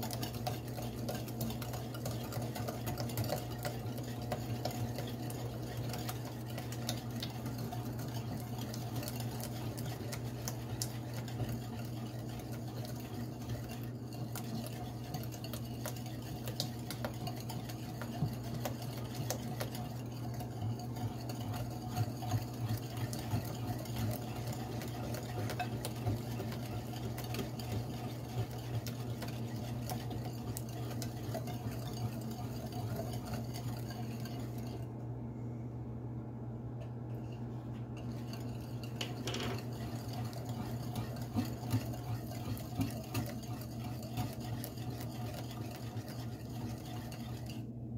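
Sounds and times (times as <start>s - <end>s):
whisk clicking on glass bowl: 0.0s - 34.8s, 37.7s - 47.6s
steady low hum: 0.0s - 47.9s.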